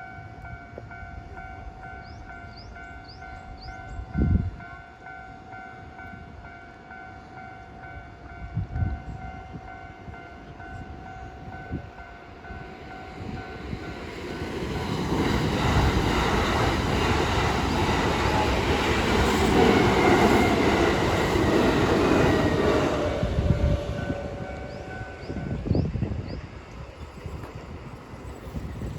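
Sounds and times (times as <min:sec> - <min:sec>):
electric train running over crossing: 0:00.0 - 0:28.9.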